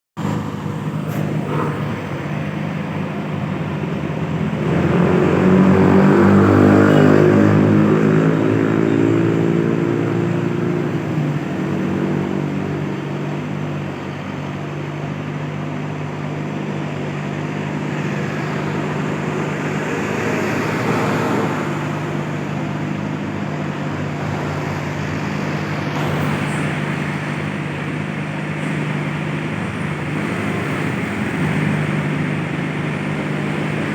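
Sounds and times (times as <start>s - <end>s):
excavator diesel engine revving: 0.2s - 33.9s.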